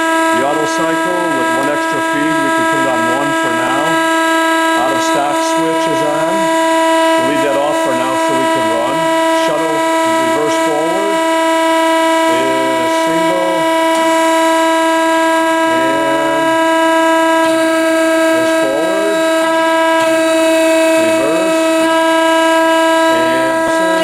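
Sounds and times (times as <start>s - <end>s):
band saw high-pitched whine: 0.0s - 24.0s.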